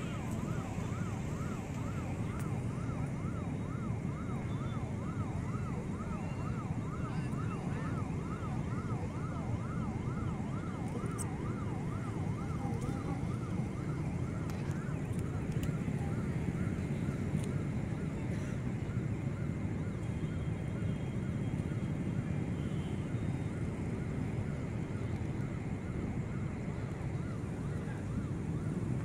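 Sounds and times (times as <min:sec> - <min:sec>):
low rumble of traffic: 0:00.0 - 0:29.0.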